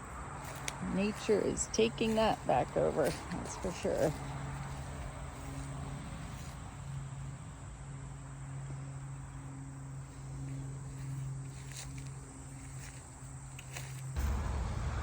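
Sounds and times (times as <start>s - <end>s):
insects chirping: 0.0s - 14.9s
steady low hum: 0.0s - 15.0s.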